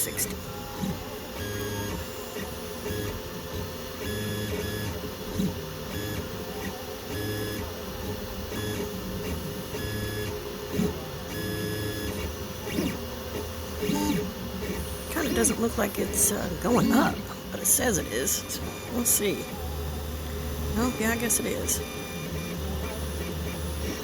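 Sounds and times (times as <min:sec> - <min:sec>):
steady printer hum: 0:00.0 - 0:24.0
stepper motors whirring: 0:00.0 - 0:24.0.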